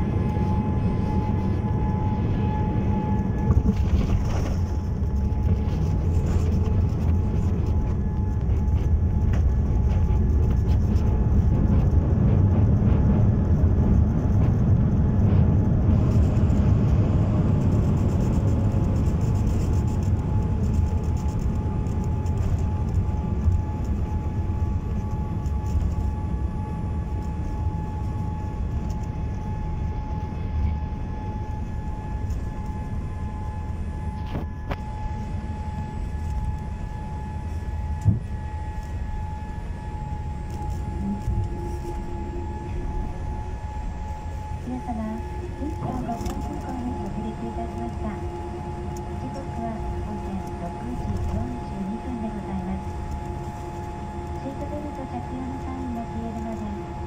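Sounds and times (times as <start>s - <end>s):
deep rumble in plane cabin: 0.0s - 57.0s
faint whine falling in pitch: 0.0s - 57.0s
steady thin whine: 0.0s - 57.0s.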